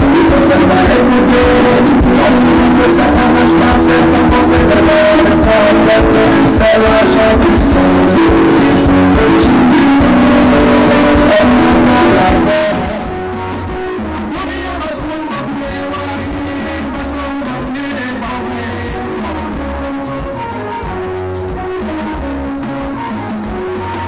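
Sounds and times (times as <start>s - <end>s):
live band with singer: 0.0s - 24.0s
quiet guitar music: 0.0s - 24.0s.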